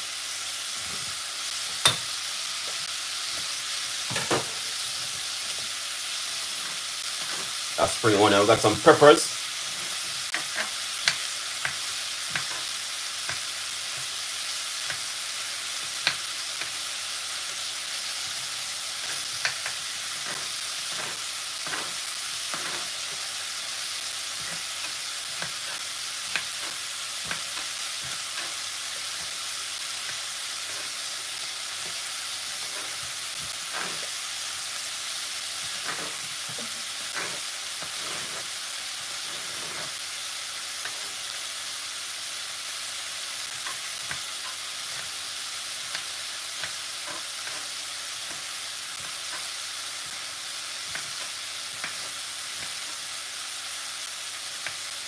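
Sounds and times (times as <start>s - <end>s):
onion and garlic sizzling in a pot: 0.0s - 55.0s.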